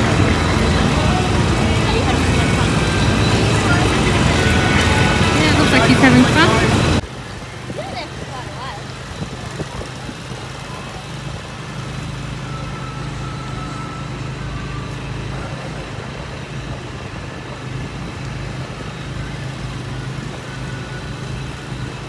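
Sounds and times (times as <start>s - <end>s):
low motor hum: 0.0s - 22.0s
outdoor background noise: 0.0s - 22.0s.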